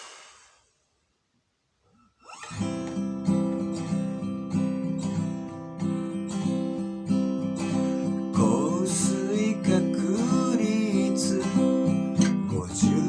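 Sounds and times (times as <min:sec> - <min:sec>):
acoustic guitar strumming: 0:02.3 - 0:13.0.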